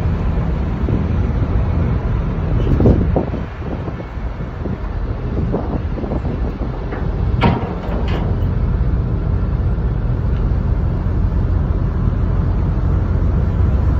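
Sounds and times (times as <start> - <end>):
ferry engine rumble: 0.0 - 13.9.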